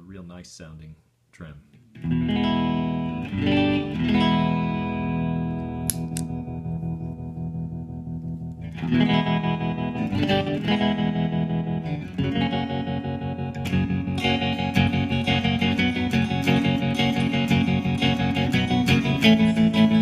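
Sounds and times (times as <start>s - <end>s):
electric guitar with tremolo: 1.9s - 20.0s.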